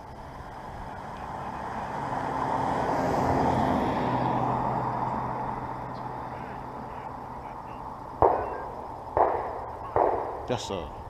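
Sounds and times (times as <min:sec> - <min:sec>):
car passing by: 0:00.3 - 0:09.6.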